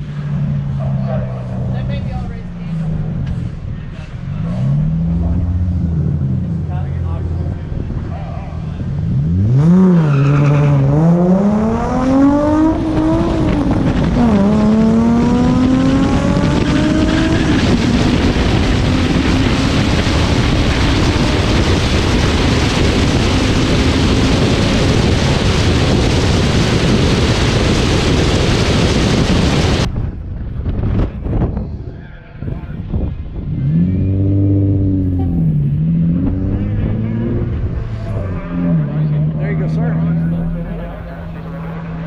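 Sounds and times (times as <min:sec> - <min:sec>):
car engine at full throttle: 0:00.0 - 0:42.0
wind and road noise: 0:00.0 - 0:42.0.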